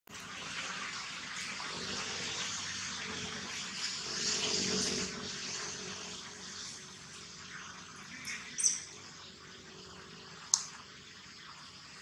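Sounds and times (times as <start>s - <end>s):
outdoor background hiss: 0.1s - 12.0s.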